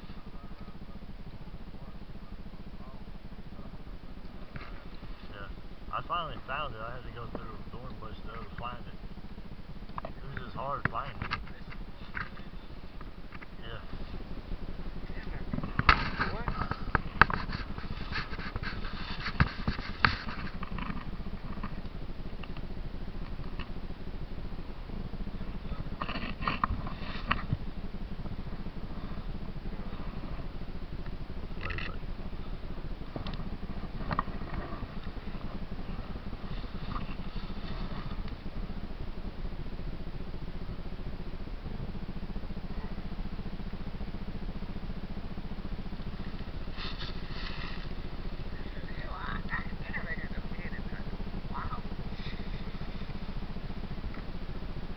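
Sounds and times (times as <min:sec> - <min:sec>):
dirt bike engine idling: 0:00.0 - 0:54.9.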